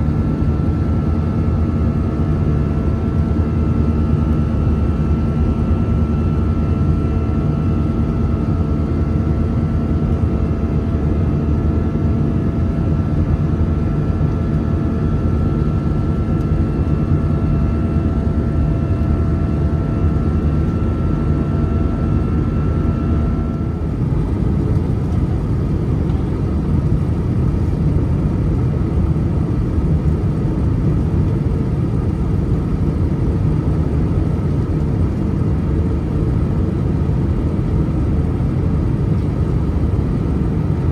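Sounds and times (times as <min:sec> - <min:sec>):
jet engine rumble: 0:00.0 - 0:40.9
jet engine whine: 0:00.0 - 0:40.9.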